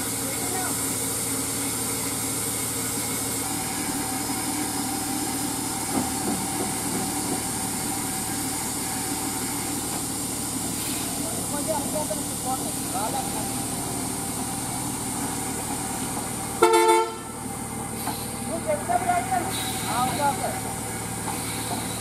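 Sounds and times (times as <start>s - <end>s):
lorry diesel engine running: 0.0s - 22.0s.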